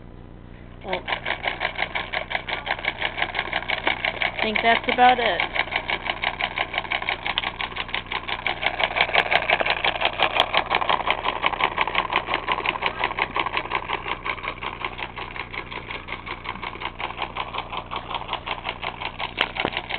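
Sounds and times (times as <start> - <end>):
solenoid engine clicking: 0.8 - 19.9.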